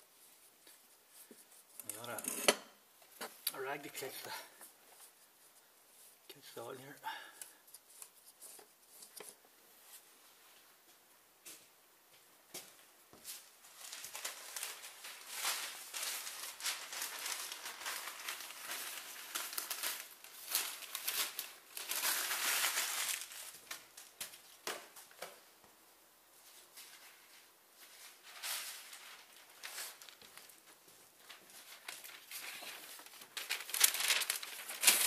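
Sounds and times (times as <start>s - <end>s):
rag rustling and crinkling: 2.8s - 11.1s, 12.6s - 35.0s.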